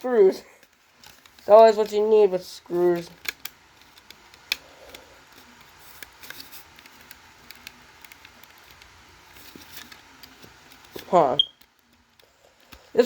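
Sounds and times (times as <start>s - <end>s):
plastic clicks and rustles: 0.5s - 2.1s, 2.8s - 12.9s.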